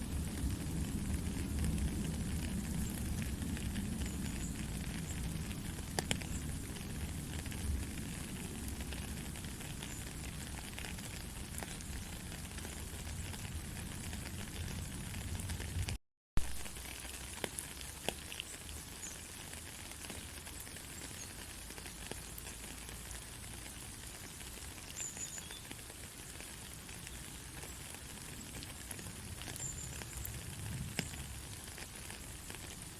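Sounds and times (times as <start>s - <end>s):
gentle rain falling: 0.0s - 32.9s.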